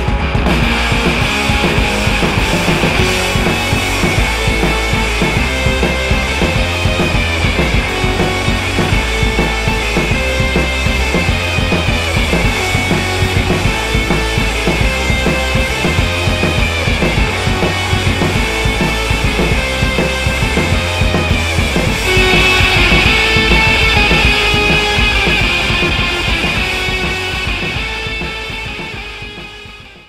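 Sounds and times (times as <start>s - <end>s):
music with drum beat and bass: 0.0s - 30.0s.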